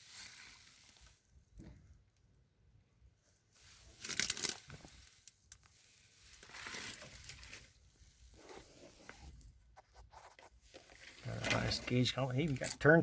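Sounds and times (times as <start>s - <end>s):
rustling and crinkling: 0.0s - 1.8s, 3.4s - 13.0s.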